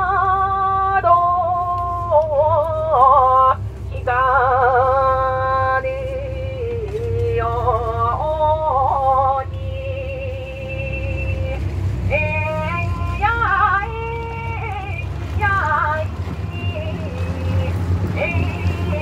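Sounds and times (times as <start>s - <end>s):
steady low rumble: 0.0s - 19.0s
woman singing unaccompanied: 0.0s - 19.0s.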